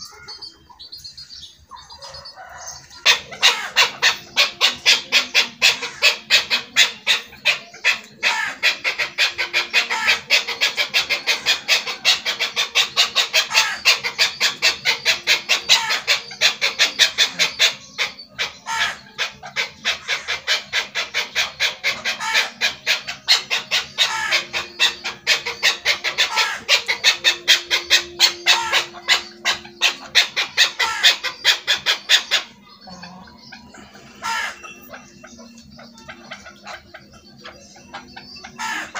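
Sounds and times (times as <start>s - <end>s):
partridge clucking call: 0.0s - 38.9s.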